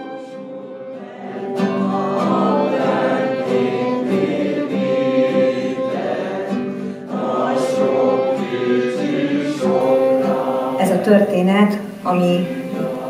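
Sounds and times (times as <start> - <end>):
violin: 0.0 - 10.7
group singing: 0.0 - 11.4, 12.0 - 13.0
acoustic guitar: 0.0 - 13.0.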